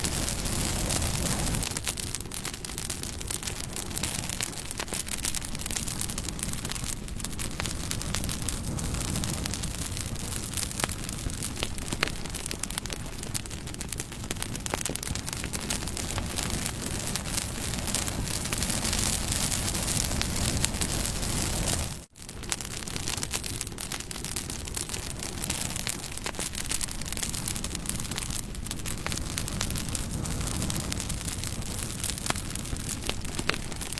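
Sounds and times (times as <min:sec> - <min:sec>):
fire hissing: 0:00.0 - 0:33.9
wood crackling and popping: 0:00.0 - 0:33.9.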